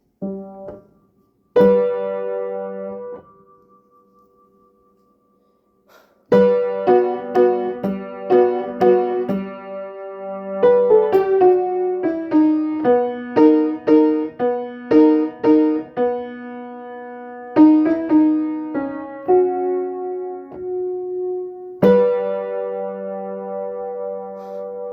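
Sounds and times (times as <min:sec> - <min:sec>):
slow piano notes and chords: 0:00.0 - 0:24.9.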